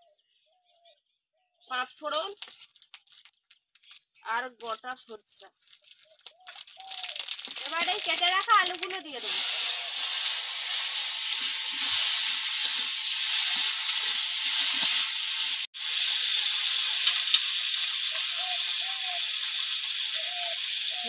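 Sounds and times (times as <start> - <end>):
potatoes sizzling in oil: 1.9 - 21.0.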